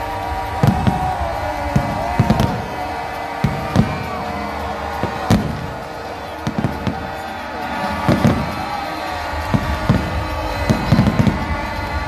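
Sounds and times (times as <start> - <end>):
fireworks bangs: 0.0 - 12.0
fireworks crackle: 0.0 - 12.0
loud music: 0.0 - 12.0.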